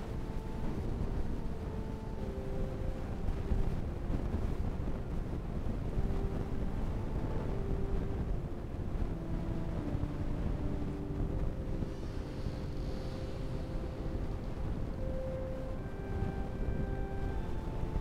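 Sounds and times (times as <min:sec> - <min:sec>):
faint held musical notes: 0:00.0 - 0:18.0
low room noise rumble: 0:00.0 - 0:18.0.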